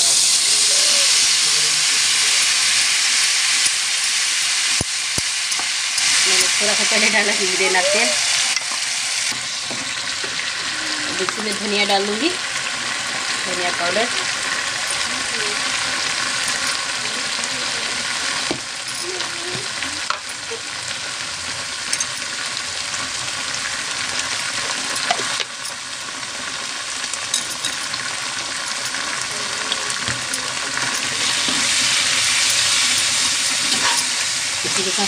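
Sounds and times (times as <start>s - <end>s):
paste sizzling in hot oil: 0.0s - 35.0s.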